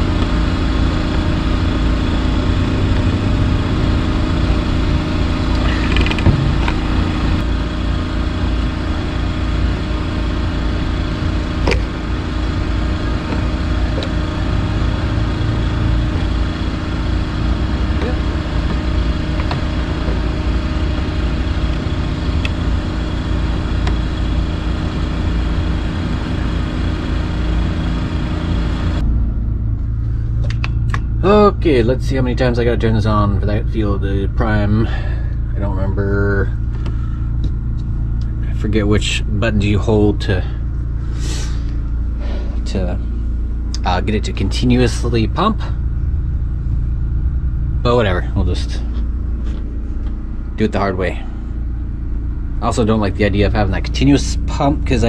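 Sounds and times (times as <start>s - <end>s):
engine droning steadily: 0.0s - 55.0s.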